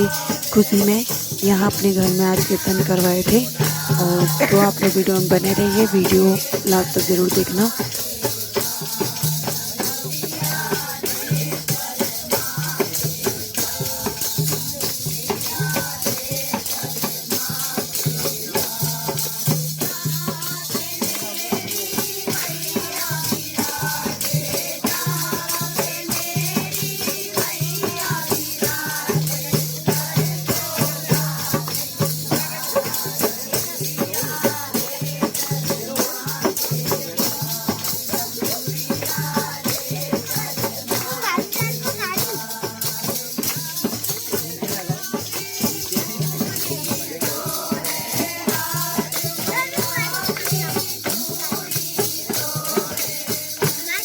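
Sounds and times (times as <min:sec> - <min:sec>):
jingling rattle percussion: 0:00.0 - 0:54.0
pulsing drum: 0:00.0 - 0:54.0
voices singing: 0:00.0 - 0:54.0.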